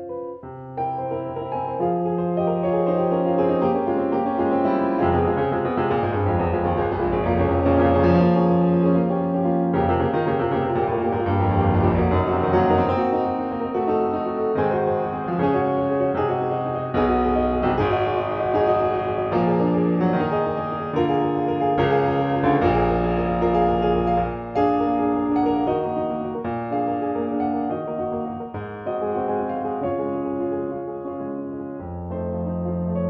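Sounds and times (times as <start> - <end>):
classical piano music: 0.0 - 33.0.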